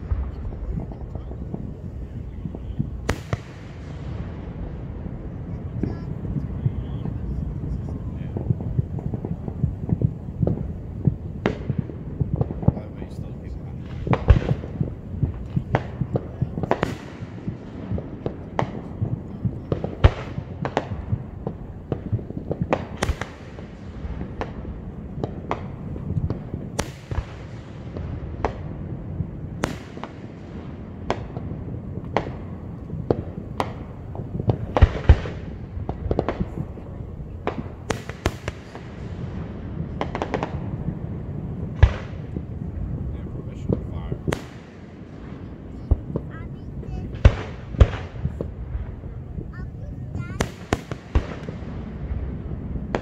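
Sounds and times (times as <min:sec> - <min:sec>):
continuous low rumble: 0:00.0 - 0:53.0
fireworks bangs and cracks: 0:00.0 - 0:53.0.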